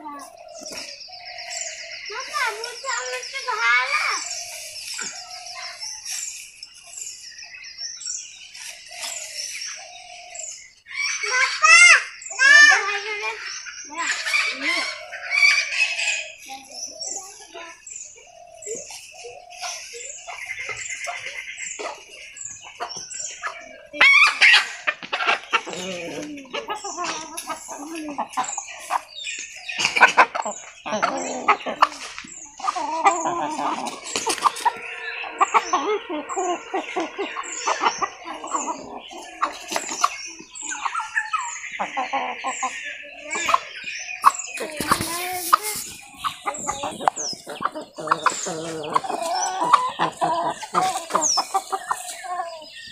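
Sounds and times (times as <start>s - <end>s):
chickens clucking: 0.0s - 52.9s
small birds chirping: 0.0s - 52.9s.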